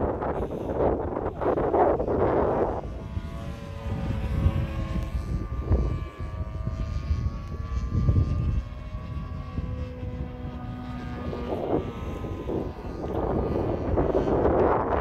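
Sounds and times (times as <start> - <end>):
model plane engine droning: 0.0 - 15.0
wind buffeting microphone: 0.0 - 15.0.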